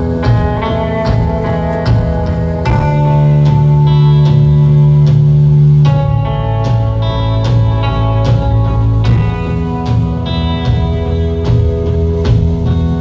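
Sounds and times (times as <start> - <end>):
electric guitar chords: 0.0 - 13.0
heavy bass: 0.0 - 13.0
slow drum beat: 0.0 - 13.0.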